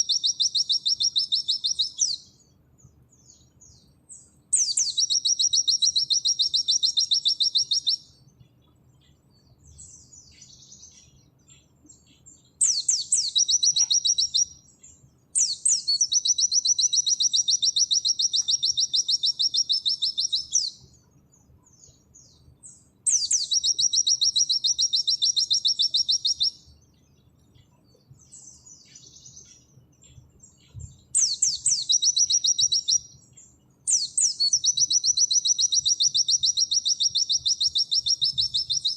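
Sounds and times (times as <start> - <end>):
bird singing fast high trills: 0.0 - 2.5, 3.2 - 8.3, 9.7 - 21.0, 21.7 - 26.8, 28.2 - 38.9.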